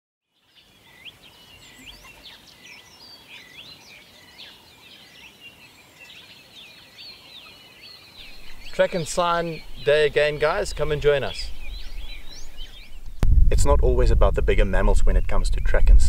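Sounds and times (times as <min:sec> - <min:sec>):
birds whistling and chirping: 0:00.4 - 0:13.2, 0:15.0 - 0:16.0.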